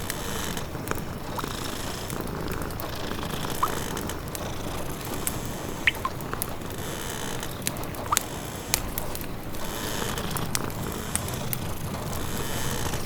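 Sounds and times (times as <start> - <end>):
rain pattering: 0.0 - 13.0
wood fire crackling: 0.0 - 13.0.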